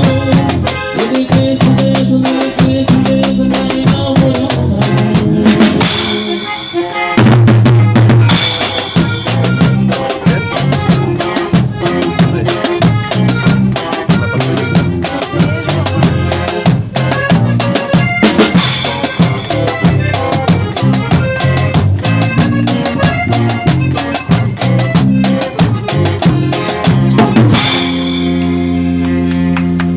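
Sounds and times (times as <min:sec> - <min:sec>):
band playing instrumental music: 0:00.0 - 0:29.9
bass line: 0:00.0 - 0:29.9
drum kit beating: 0:00.0 - 0:29.9.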